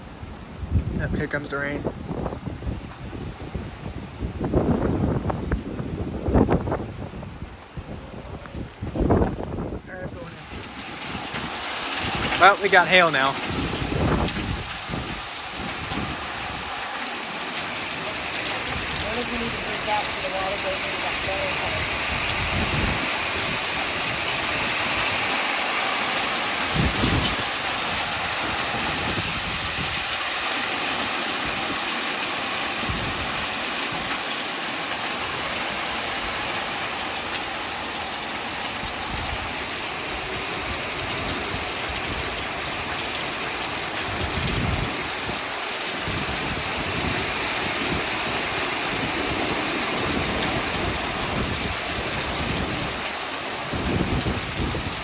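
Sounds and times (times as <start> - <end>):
heavy rain and hail: 0.0 - 55.0
wind gusting across microphone: 0.0 - 55.0.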